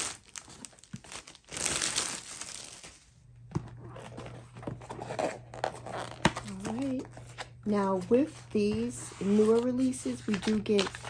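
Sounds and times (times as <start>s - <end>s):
packaging crinkling and rustling: 0.0s - 7.5s, 9.3s - 11.0s.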